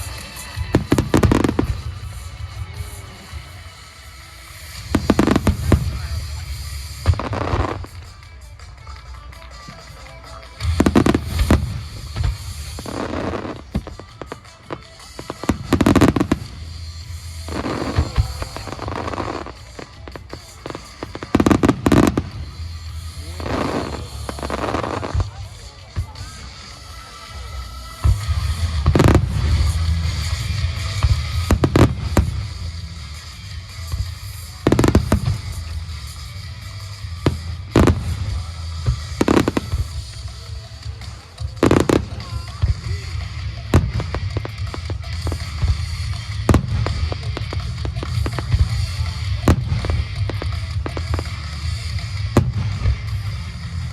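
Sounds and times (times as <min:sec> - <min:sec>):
background music: 0:00.0 - 0:53.9
fireworks crackling: 0:00.0 - 0:53.9
fireworks popping: 0:00.0 - 0:53.9
loud fireworks bangs: 0:00.0 - 0:53.9.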